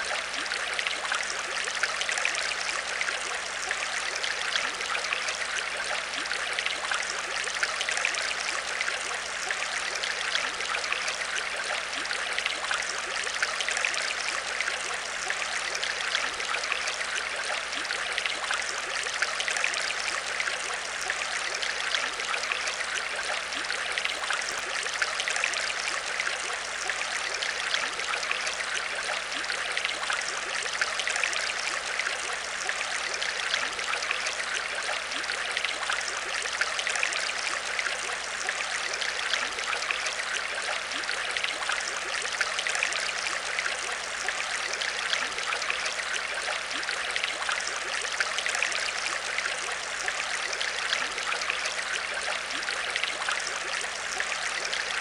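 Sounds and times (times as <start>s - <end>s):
aquarium water trickling: 0.0s - 55.0s.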